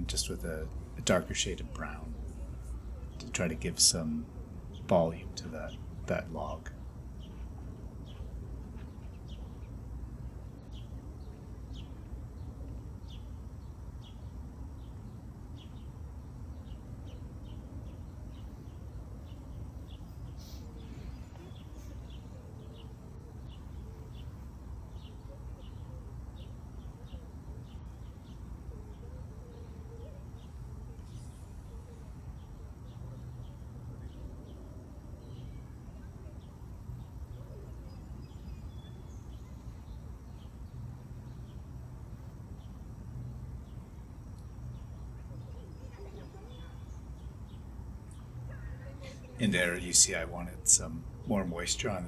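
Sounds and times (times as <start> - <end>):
small bird chirping: 0.0 - 52.0.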